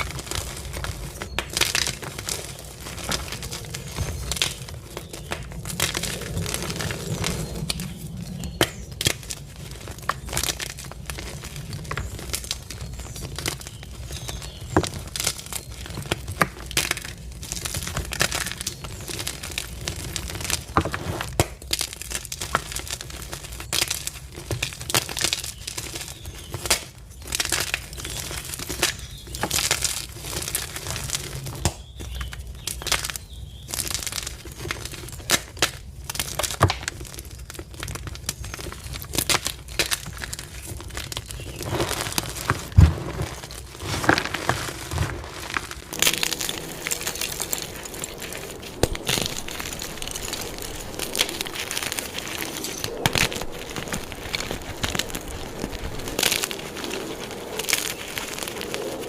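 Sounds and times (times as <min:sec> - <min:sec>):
chalk blocks crunching and crumbling: 0:00.0 - 0:59.0.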